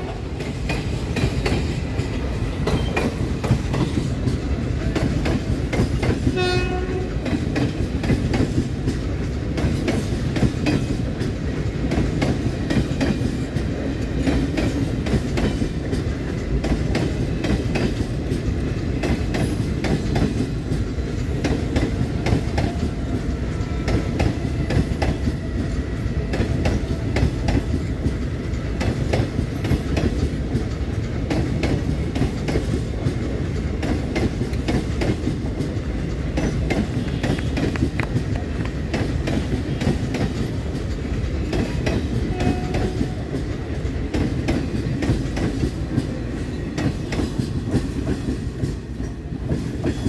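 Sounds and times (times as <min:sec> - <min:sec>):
train rumbling past: 0:00.0 - 0:50.0.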